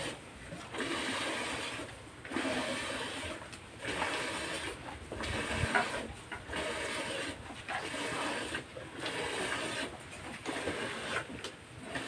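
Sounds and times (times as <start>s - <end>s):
milk squirting into bucket: 0.0s - 12.0s.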